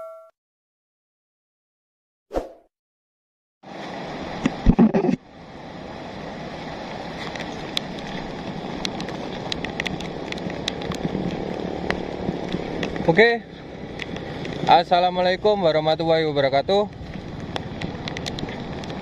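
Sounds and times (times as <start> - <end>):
rain and rushing flood water: 3.6 - 19.0.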